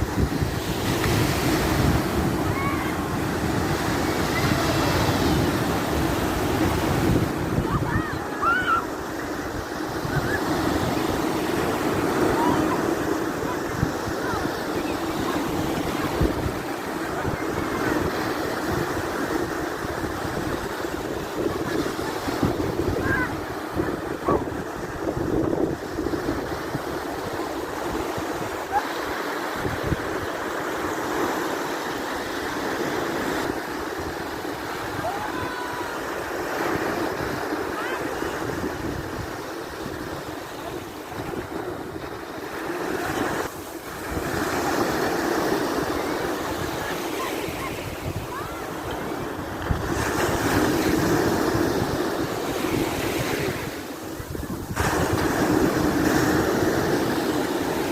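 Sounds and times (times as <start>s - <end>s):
wind on microphone: 0.0s - 31.4s, 32.1s - 57.9s
surf breaking on beach: 0.0s - 57.9s.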